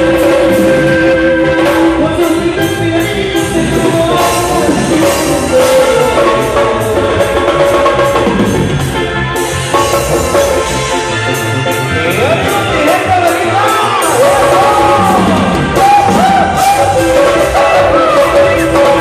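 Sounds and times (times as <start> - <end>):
drum kit dance beat: 0.0 - 19.0
live dance band: 0.0 - 19.0.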